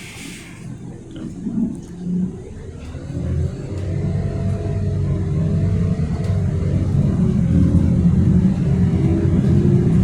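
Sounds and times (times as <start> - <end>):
bus engine rumbling: 0.0 - 10.0.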